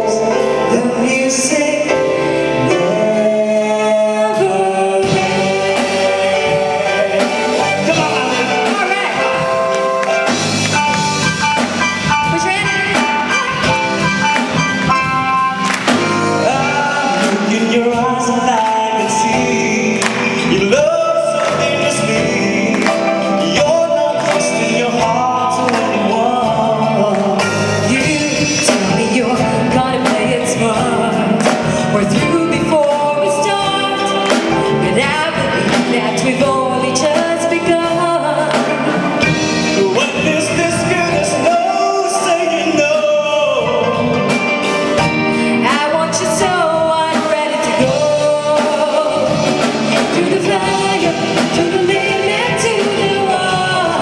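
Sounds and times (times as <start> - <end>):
live band playing: 0.0 - 54.0
person singing: 0.0 - 54.0.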